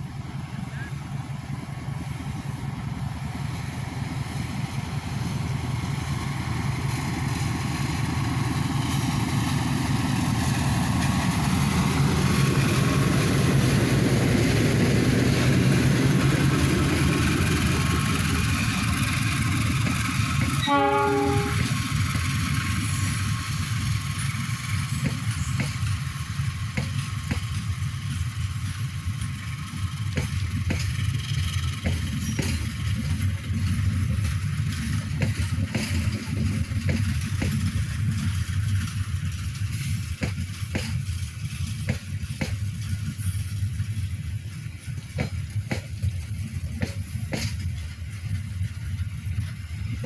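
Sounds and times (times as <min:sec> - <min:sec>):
train coaches rumbling past: 0:00.0 - 0:50.0.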